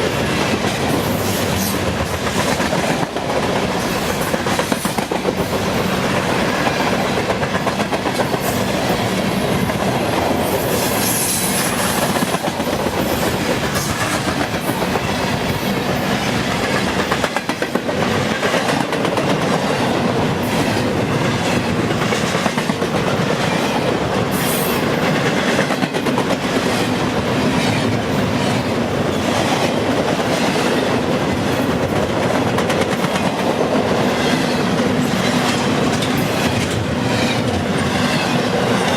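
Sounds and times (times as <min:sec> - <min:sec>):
clickety-clack over rail joints: 0:00.0 - 0:38.9
train wheels rumbling on rail: 0:00.0 - 0:38.9.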